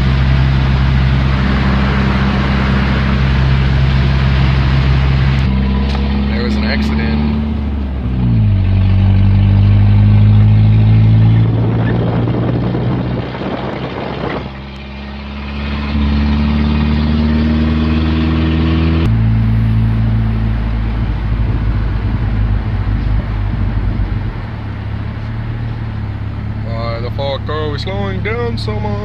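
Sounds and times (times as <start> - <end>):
rushing road noise: 0.0 - 29.0
truck engine drone: 0.0 - 29.0.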